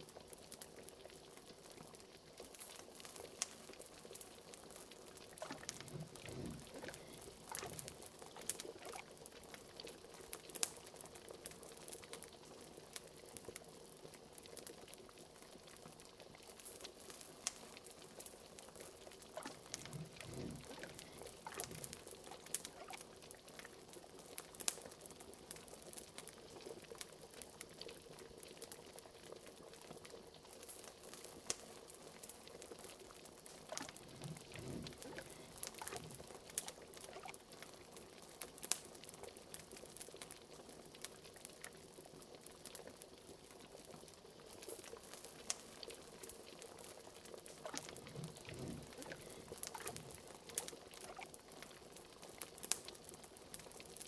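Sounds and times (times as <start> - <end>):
liquid bubbling in a pot: 0.0 - 54.0
fire crackling: 0.3 - 14.7, 15.3 - 54.0.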